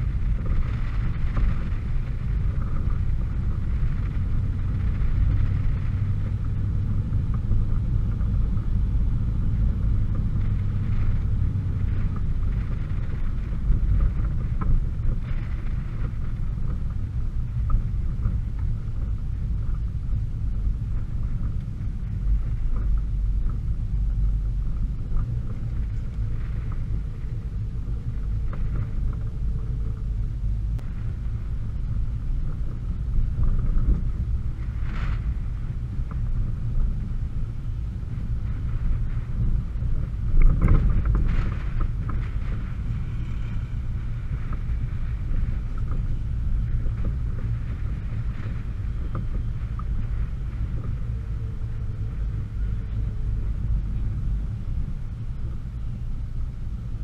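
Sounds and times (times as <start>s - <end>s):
car engine rumble: 0.0s - 57.0s
wind buffeting microphone: 0.0s - 57.0s.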